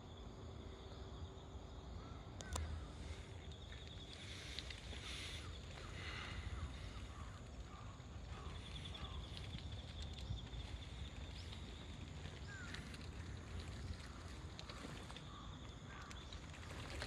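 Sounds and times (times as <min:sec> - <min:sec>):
bird chirps: 0:00.8 - 0:17.0
bird trill: 0:02.0 - 0:17.0
wind rumble on microphone: 0:02.4 - 0:17.0.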